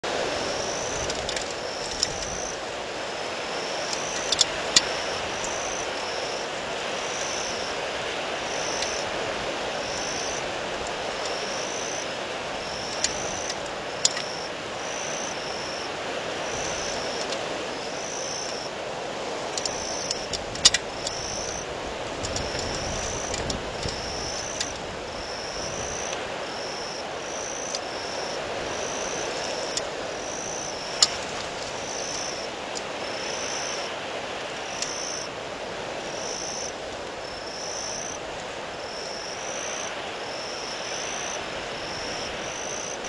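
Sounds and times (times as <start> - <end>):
wind gusting across microphone: 0.0 - 43.0.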